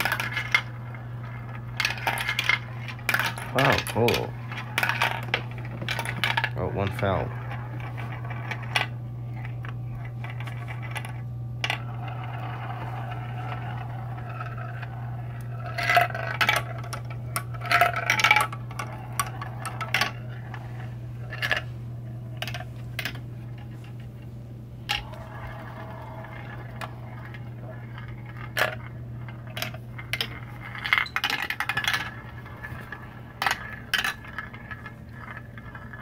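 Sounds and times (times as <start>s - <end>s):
marbles clattering on plastic tracks: 0.0s - 21.7s, 22.4s - 24.0s, 24.8s - 36.0s
steady low hum: 0.0s - 36.0s.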